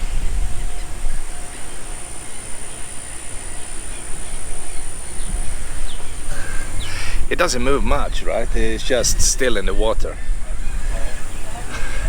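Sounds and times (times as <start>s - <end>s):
high-pitched whine: 0.0s - 12.0s
wind buffeting microphone: 0.0s - 12.0s.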